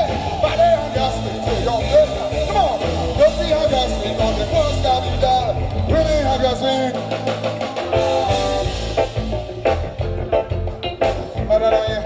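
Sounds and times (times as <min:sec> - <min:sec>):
bass guitar: 0:00.0 - 0:12.0
drums keeping a steady beat: 0:00.0 - 0:12.0
lead instrument melody: 0:00.4 - 0:12.0.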